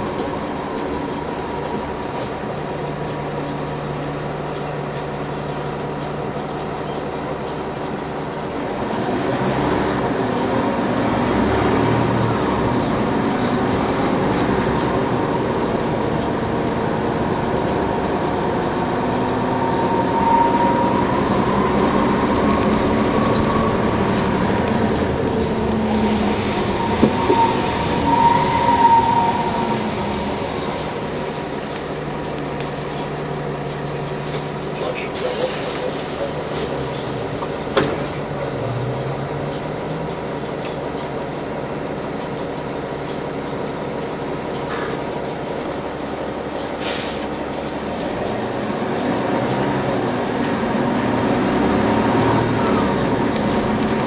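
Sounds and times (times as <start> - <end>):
bus diesel engine: 0.0 - 54.0
drivetrain whine: 0.0 - 54.0.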